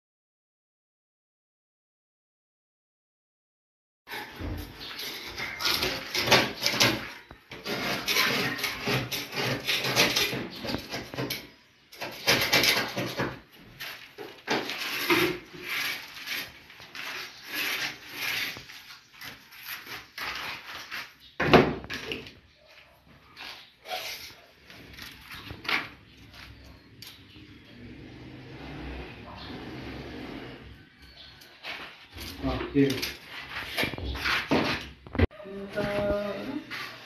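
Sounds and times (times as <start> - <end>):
rubbing and scraping: 4.1 - 37.0.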